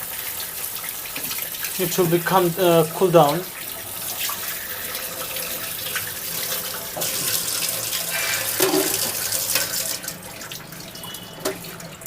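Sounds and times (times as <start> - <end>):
kitchen tap running: 0.0 - 12.0.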